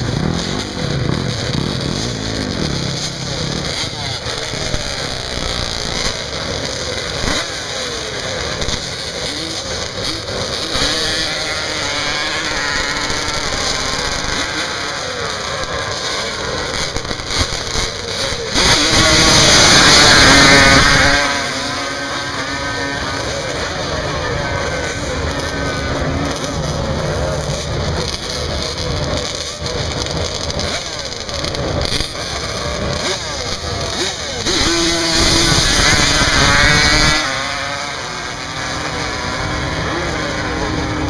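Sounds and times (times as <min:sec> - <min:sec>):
engine at full throttle: 0:00.0 - 0:41.0
quad engines revving: 0:00.0 - 0:41.0.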